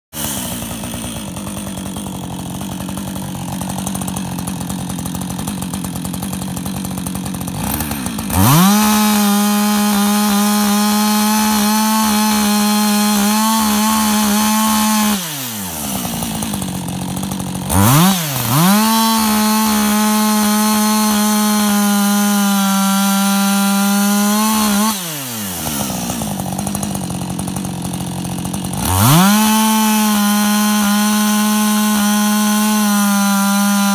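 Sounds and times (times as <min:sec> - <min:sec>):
chainsaw revving and cutting logs: 0:00.1 - 0:33.9.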